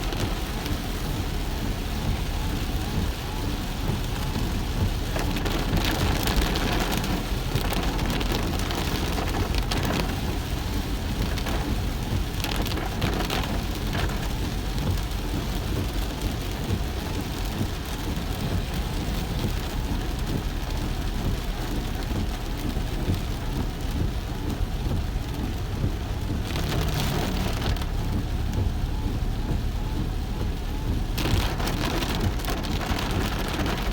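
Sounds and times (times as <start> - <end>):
low road rumble: 0.0 - 33.9
rain hissing on a car: 0.0 - 33.9.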